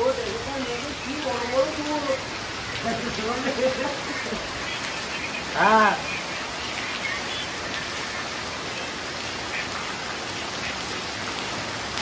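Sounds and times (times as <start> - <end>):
rain on wet pavement: 0.0 - 12.0.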